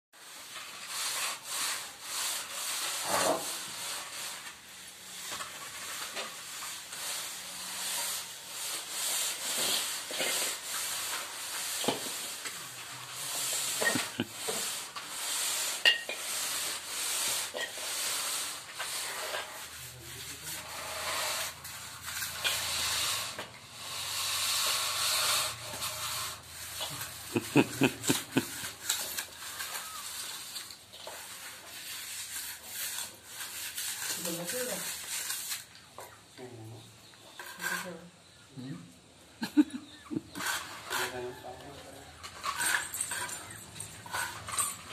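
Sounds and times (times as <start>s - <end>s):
hand tool scraping soil: 0.2s - 36.2s, 37.3s - 38.0s, 39.4s - 44.9s.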